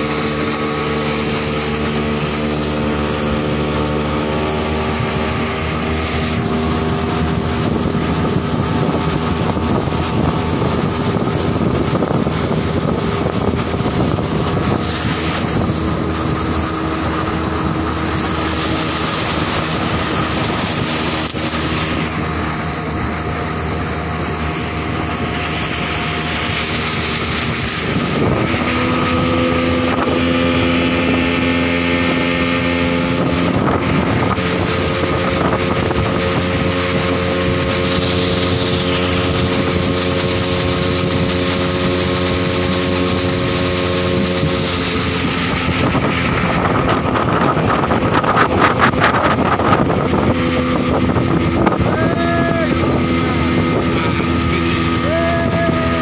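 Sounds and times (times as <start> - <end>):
motorboat engine running: 0.0 - 56.0
water rushing past hull: 0.0 - 56.0
wind on microphone: 0.0 - 56.0.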